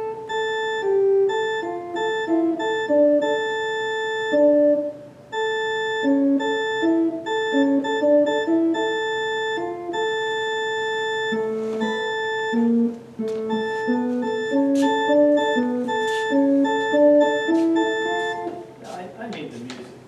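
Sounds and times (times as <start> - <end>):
electronic organ playing chords: 0.0 - 19.0.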